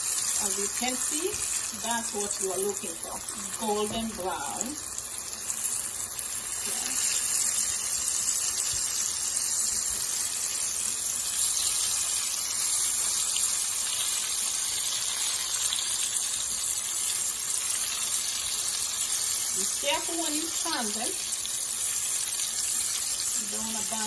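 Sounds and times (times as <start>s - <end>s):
potatoes sizzling in hot oil: 0.0s - 24.0s.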